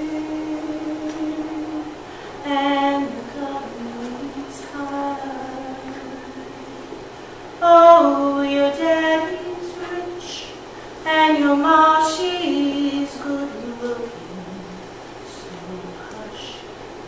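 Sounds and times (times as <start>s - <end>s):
woman singing unaccompanied: 0.0s - 16.8s.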